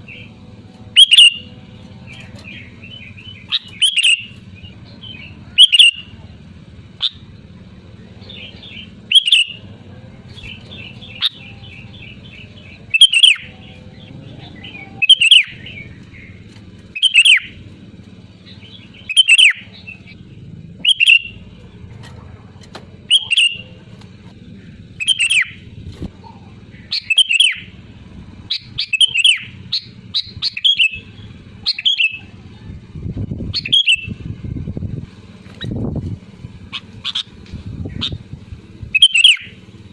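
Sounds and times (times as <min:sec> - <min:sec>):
bulbul calling: 0:00.0 - 0:21.8, 0:23.0 - 0:32.5, 0:33.4 - 0:34.3, 0:36.5 - 0:39.9.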